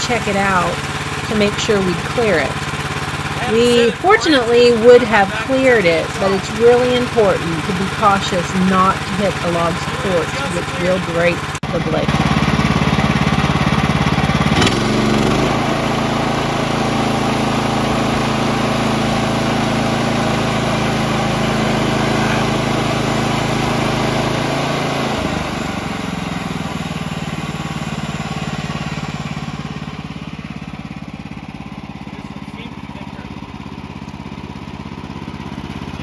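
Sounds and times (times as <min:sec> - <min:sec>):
sawmill gas engine running: 0:00.0 - 0:36.0.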